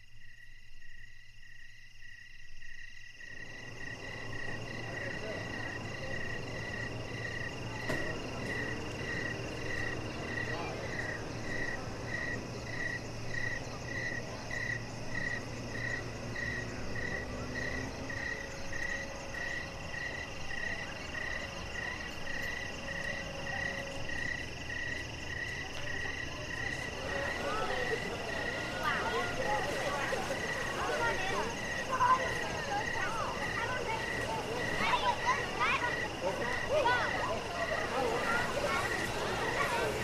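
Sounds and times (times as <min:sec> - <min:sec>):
frogs and insects chorus: 0:00.0 - 0:40.0.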